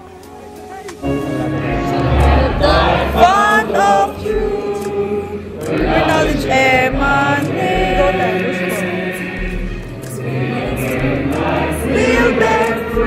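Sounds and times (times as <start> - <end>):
group singing a hymn: 0.5 - 13.0.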